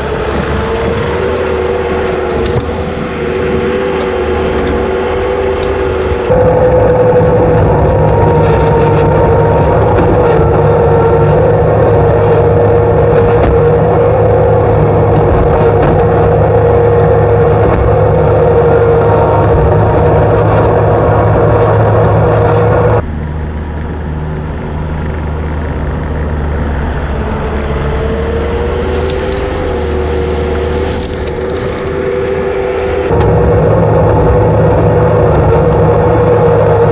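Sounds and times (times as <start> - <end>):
skid steer engine whining: 0.0 - 36.9.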